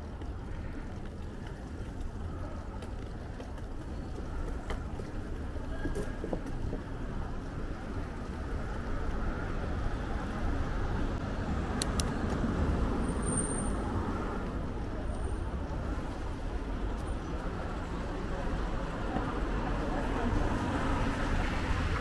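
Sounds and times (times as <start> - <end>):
road traffic hum: 0.0 - 22.0.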